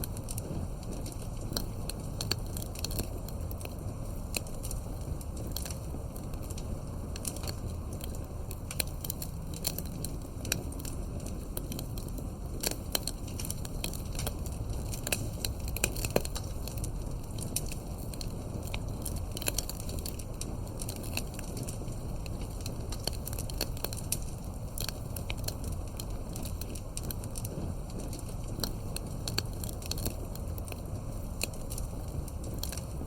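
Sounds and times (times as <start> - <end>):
firewood crackling and popping: 0.0 - 33.0
low rumble of flames: 0.0 - 33.0.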